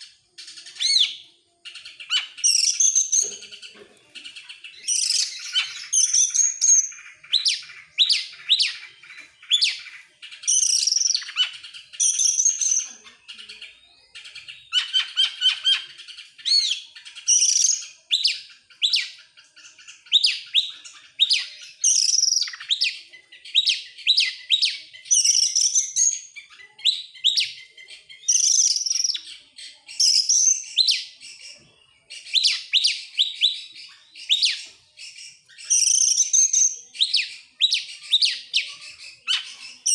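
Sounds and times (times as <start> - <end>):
songbird chirps and whistles: 0.0 - 39.9.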